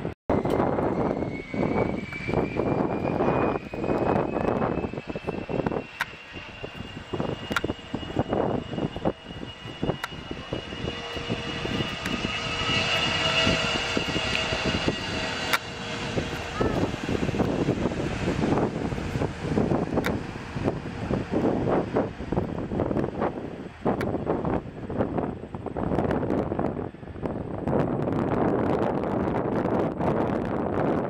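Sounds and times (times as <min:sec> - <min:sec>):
jet engines whining: 0:00.0 - 0:28.3
wind buffeting microphone: 0:00.0 - 0:31.0.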